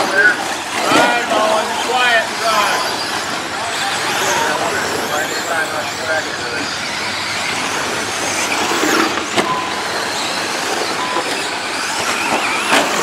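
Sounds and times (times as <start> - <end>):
toy car motors whining: 0.0 - 13.0
tyres on loose dirt: 0.0 - 13.0.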